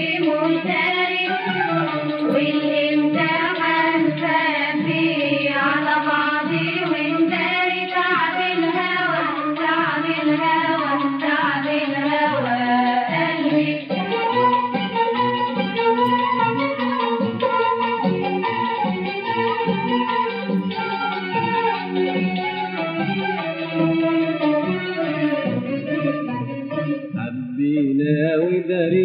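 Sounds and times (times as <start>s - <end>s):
old muffled song recording: 0.0s - 29.0s.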